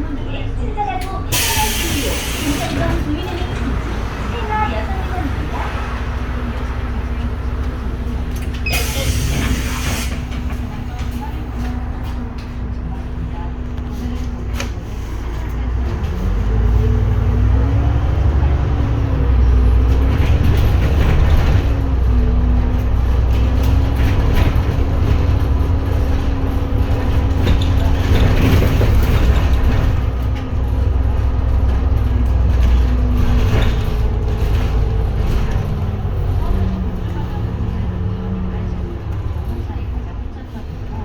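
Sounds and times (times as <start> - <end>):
bus engine drone: 0.0 - 41.0.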